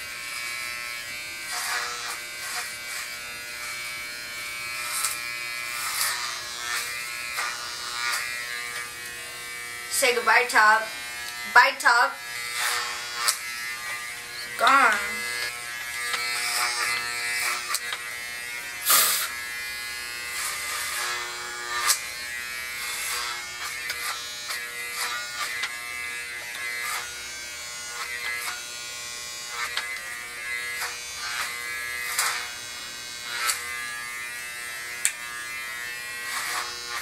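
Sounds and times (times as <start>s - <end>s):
electric hair clippers buzzing: 0.0s - 37.0s.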